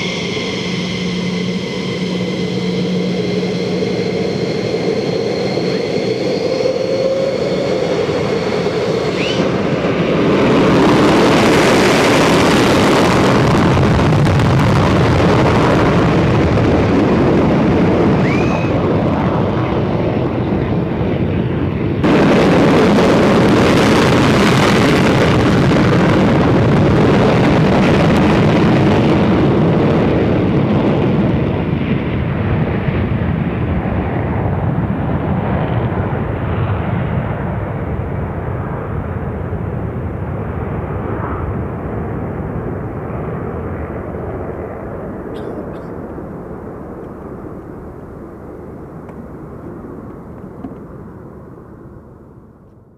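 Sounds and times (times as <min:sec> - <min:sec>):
jet afterburner roar: 0:00.0 - 0:51.7
jet turbine whine: 0:00.0 - 0:52.9.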